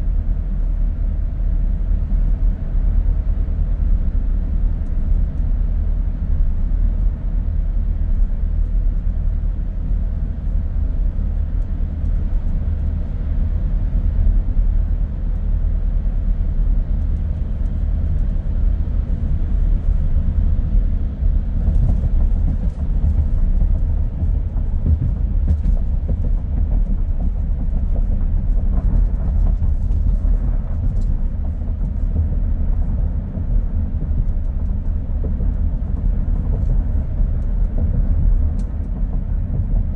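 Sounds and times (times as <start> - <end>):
car road rumble and tyre noise: 0.0 - 39.9.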